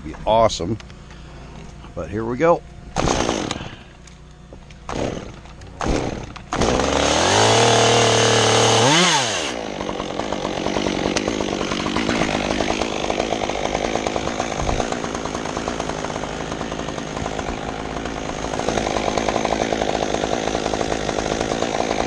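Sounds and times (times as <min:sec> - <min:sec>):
chainsaw revving and idling: 0:03.0 - 0:22.0.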